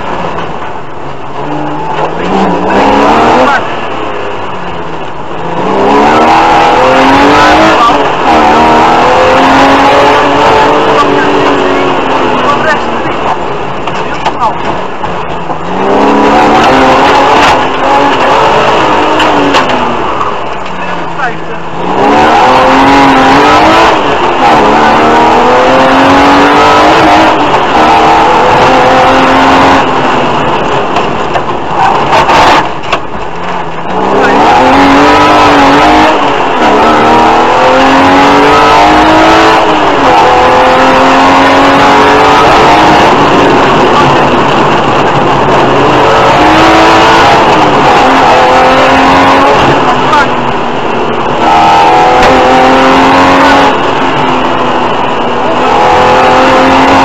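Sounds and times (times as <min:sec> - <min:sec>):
car engine accelerating hard: 0:00.0 - 0:57.0.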